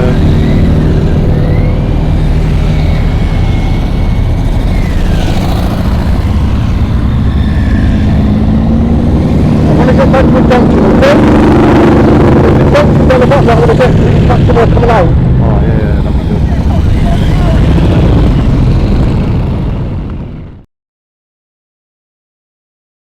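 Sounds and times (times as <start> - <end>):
motorcycle engine running: 0.0 - 20.6.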